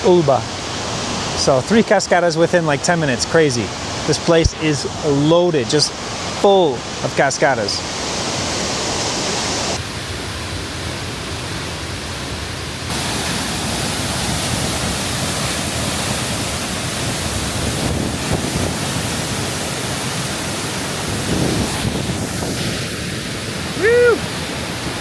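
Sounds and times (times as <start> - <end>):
waterfall rushing: 0.1 - 25.0.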